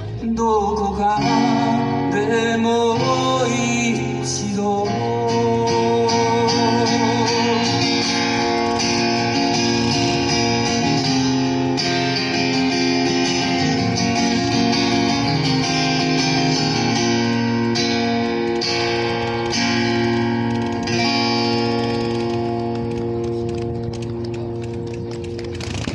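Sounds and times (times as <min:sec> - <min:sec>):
instrumental folk guitar music: 0:00.0 - 0:25.9.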